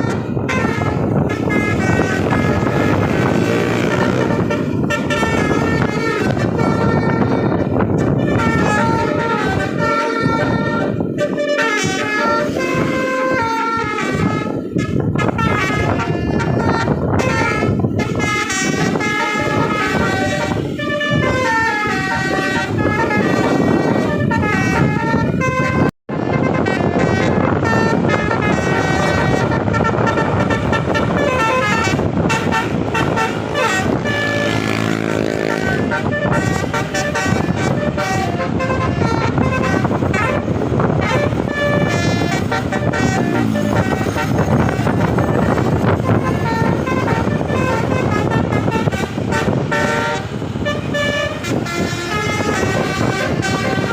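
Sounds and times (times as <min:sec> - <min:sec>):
musical air horn melody: 0:00.0 - 0:53.9
running vehicle noise: 0:00.0 - 0:53.9.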